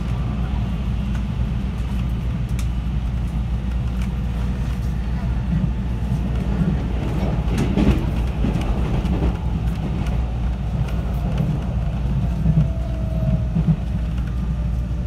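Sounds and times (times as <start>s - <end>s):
train wheels and motors rumbling: 0.0s - 15.0s.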